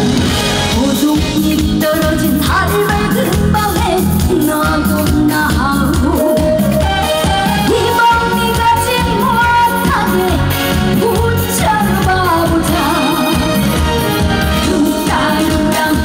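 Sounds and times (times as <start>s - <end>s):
band accompaniment with steady beat: 0.0s - 16.0s
woman singing with vibrato: 0.6s - 16.0s.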